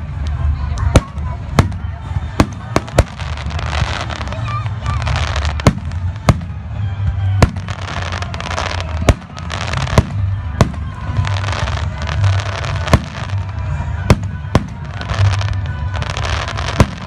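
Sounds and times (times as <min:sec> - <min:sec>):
fireworks crackling: 0:00.0 - 0:17.0
fireworks bangs: 0:00.7 - 0:17.0.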